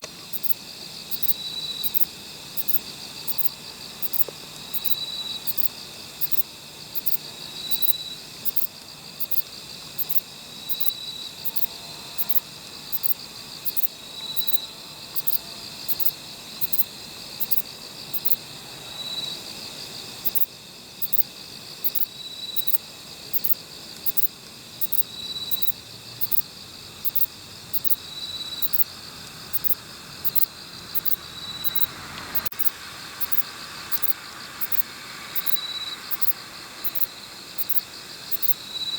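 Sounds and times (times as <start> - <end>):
katydid chirping: 0.3 - 6.4, 7.0 - 9.4, 10.0 - 18.4, 20.2 - 38.9.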